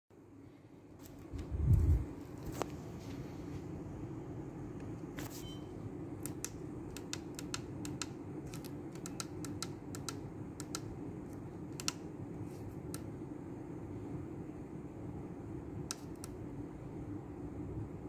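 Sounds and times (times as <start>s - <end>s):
low background hum: 0.1s - 18.0s.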